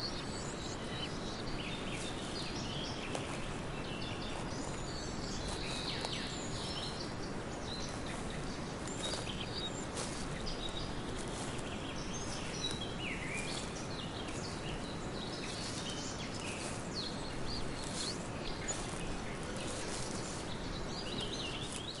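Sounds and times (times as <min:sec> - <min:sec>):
birds chirping and calling: 0:00.0 - 0:22.0
steady background noise: 0:00.0 - 0:22.0.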